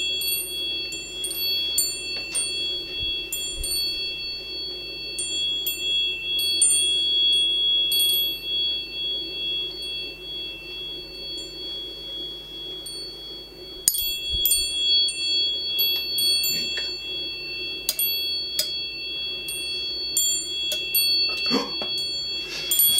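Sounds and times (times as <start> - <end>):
glass door chime clinking: 0.0 - 11.7, 13.8 - 22.9.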